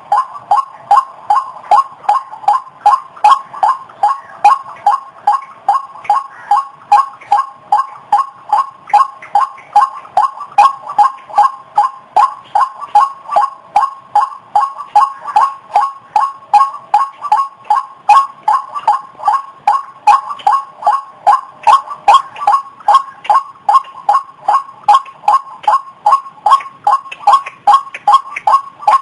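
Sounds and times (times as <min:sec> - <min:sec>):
waterhen repeated calls: 0:00.0 - 0:29.0.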